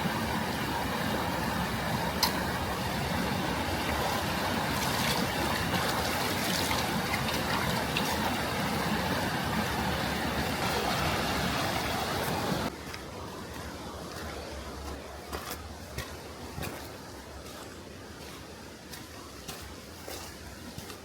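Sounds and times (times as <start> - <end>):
stream water flowing: 0.0 - 21.0.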